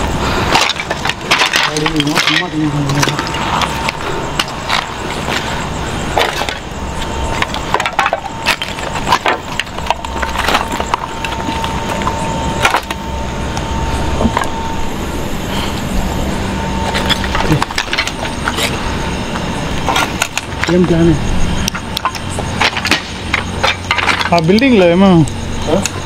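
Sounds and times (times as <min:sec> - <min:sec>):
footsteps crunching over rubble: 0:00.0 - 0:24.8
thin steady tone: 0:00.0 - 0:26.0.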